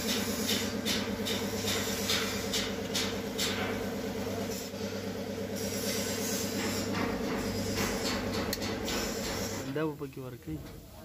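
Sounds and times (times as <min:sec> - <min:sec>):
truck engine idling: 0:00.0 - 0:09.7.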